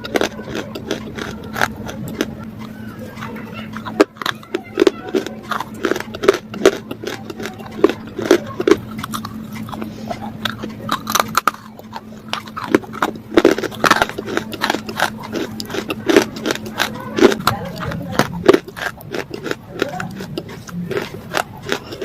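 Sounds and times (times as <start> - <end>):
person crunching something hard: 0.0 - 22.0
steady low hum: 0.0 - 22.0.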